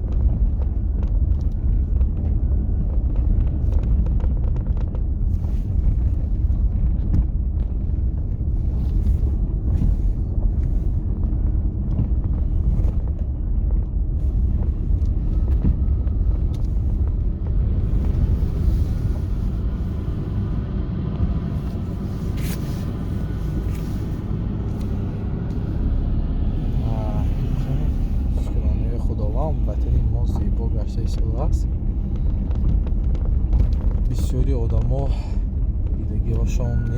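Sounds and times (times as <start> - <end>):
low outdoor rumble: 0.0 - 36.9.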